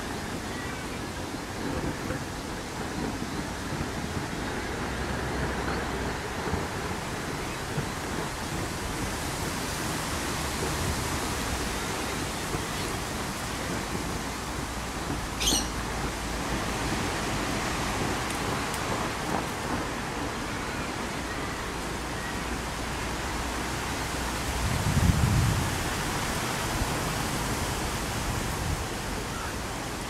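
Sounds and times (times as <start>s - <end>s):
steady wind: 0.0s - 30.0s
wind buffeting the microphone: 0.0s - 30.0s.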